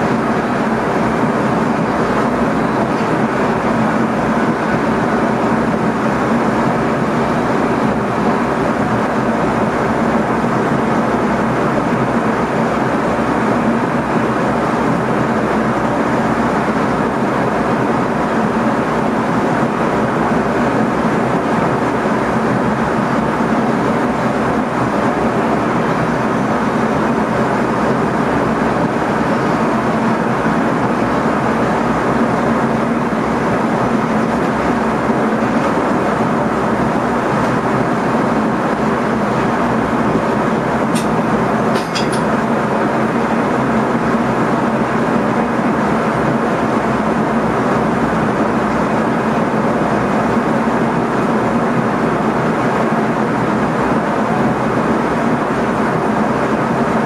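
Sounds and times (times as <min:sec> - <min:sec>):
electric train running on rails: 0:00.0 - 0:57.0.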